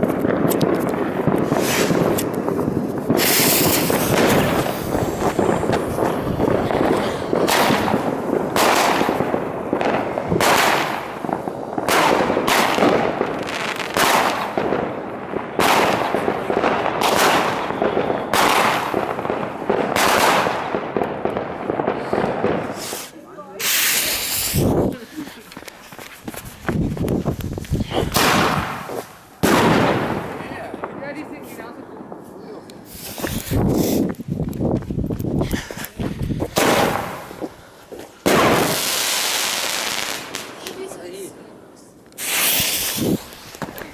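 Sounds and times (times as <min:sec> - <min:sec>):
firework bangs: 0:00.0 - 0:41.4, 0:42.0 - 0:43.9
firework rushing noise: 0:00.0 - 0:41.4, 0:42.1 - 0:43.9.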